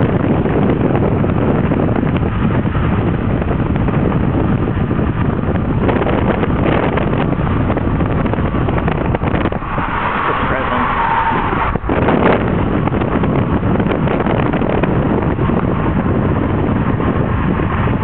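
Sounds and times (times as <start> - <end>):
road noise from moving car: 0.0 - 18.0
wind buffeting microphone: 0.0 - 18.0.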